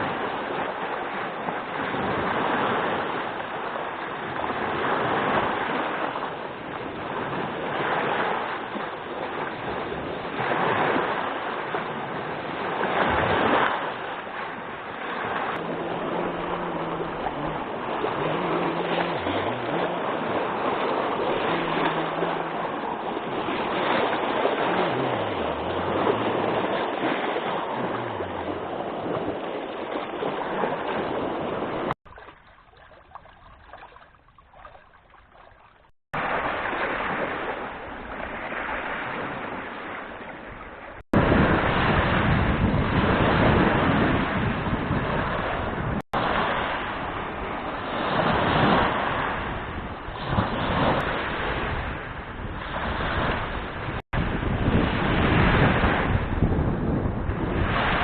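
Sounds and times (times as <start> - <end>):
strong wind on microphone: 0.0 - 32.0, 36.2 - 58.0
lake water splashing and lapping: 0.0 - 58.0.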